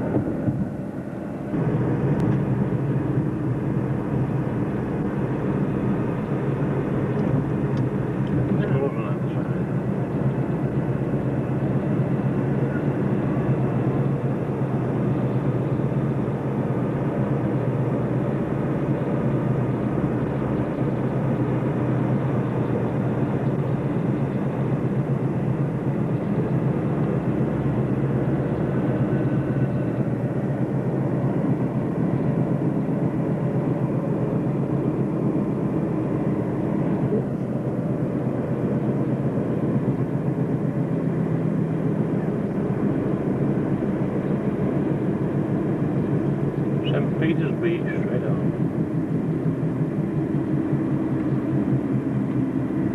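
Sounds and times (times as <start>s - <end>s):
car cabin road and engine noise: 0.0s - 52.9s.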